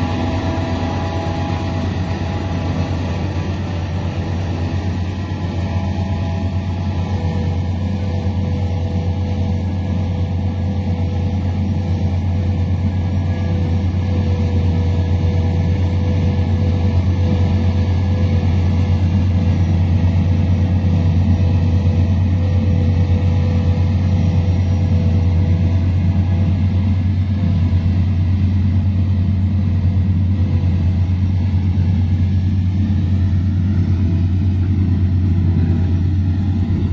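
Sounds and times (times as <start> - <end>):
harvester engine drone: 0.0 - 36.9
thin steady hum: 0.0 - 36.9.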